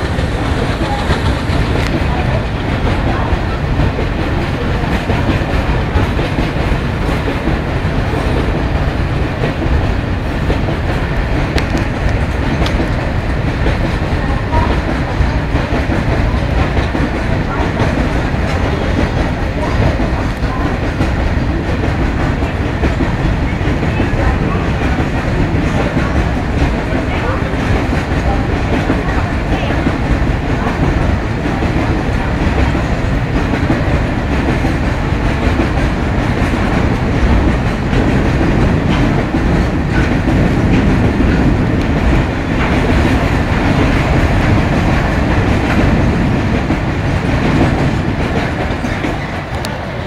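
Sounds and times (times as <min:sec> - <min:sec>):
freight wagons rolling on rails: 0:00.0 - 0:50.0.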